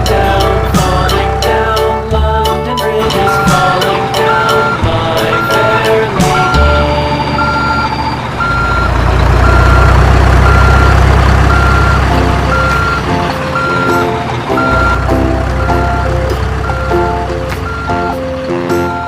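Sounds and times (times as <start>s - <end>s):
light music: 0.0s - 8.1s, 11.5s - 19.0s
truck engine rumble: 0.0s - 19.0s
truck reversing alarm beeping: 3.0s - 19.0s.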